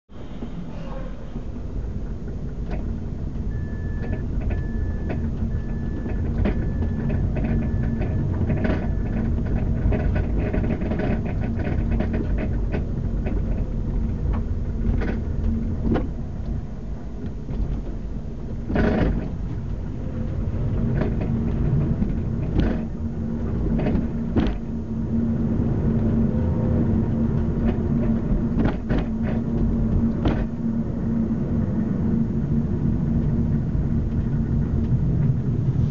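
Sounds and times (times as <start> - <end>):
low road rumble: 0.1 - 35.9
suspension clunking over bumps: 1.3 - 35.9.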